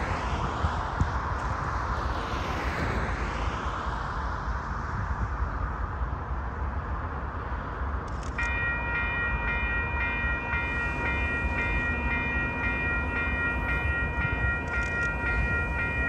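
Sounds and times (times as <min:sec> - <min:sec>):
cars passing: 0:00.0 - 0:16.0
steady low rumble: 0:00.0 - 0:16.0.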